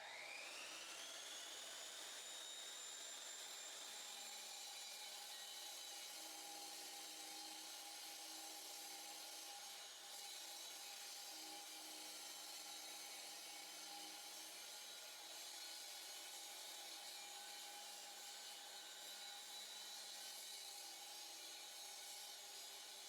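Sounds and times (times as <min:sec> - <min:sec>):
power saw cutting concrete: 0:00.0 - 0:23.0.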